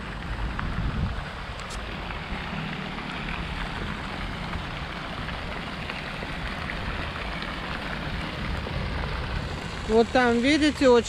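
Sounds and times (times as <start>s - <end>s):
rain hiss: 0.0s - 11.0s
wind rumbling on microphone: 0.0s - 11.0s.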